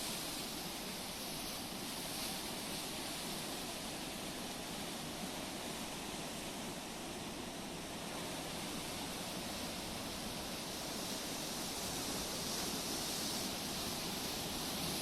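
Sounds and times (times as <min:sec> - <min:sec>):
sea waves and surf: 0:00.0 - 0:15.0.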